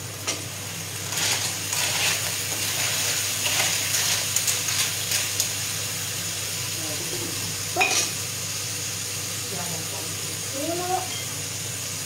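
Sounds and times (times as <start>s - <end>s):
food sizzling in frying pans: 0.0s - 12.0s.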